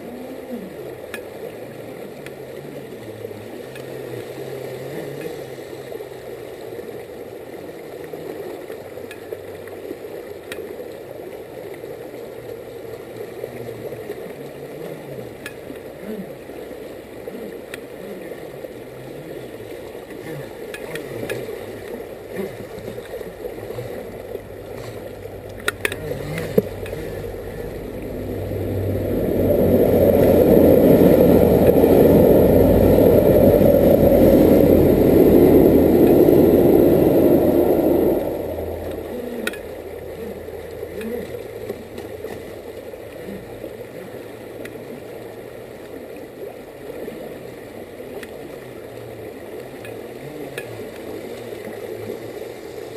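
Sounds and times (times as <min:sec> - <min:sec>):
water rushing over rocks: 0:00.0 - 0:52.9.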